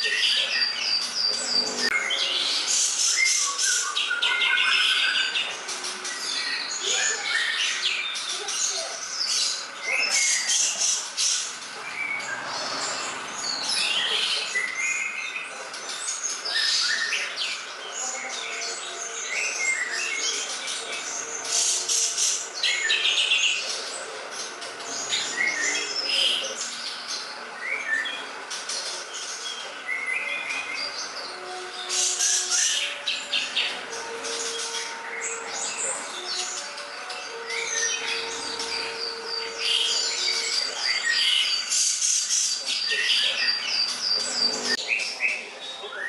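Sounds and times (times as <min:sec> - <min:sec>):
bird song chirps and trills: 0:00.0 - 0:46.0.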